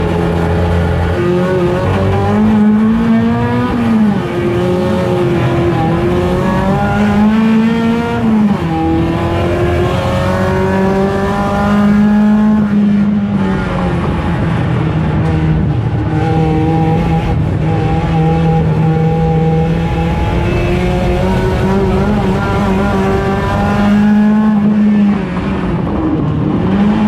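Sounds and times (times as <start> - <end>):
race car engine at full throttle: 0.0 - 27.0.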